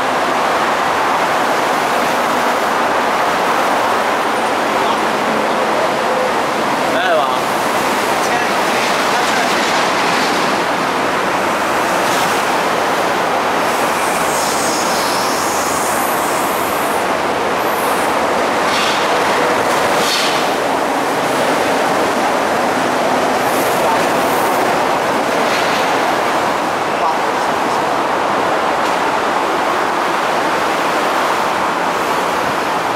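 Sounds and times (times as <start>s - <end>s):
electric train rumbling past: 0.0s - 32.9s.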